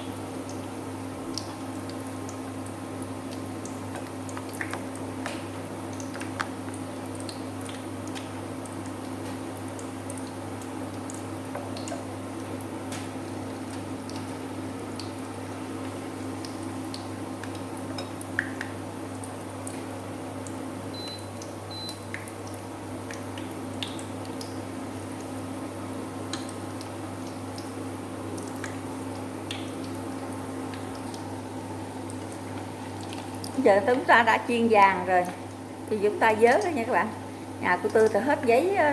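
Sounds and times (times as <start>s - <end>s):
deep-frying sizzle: 0.0s - 38.9s.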